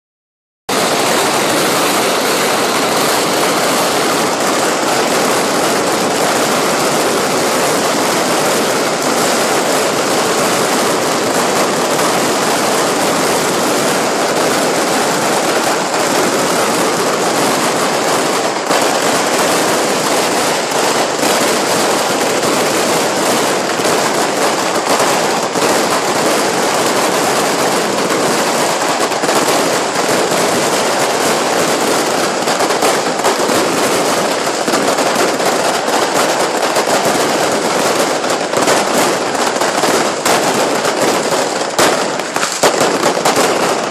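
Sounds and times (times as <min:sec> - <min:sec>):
firecrackers crackling barrage: 0:00.7 - 0:43.9.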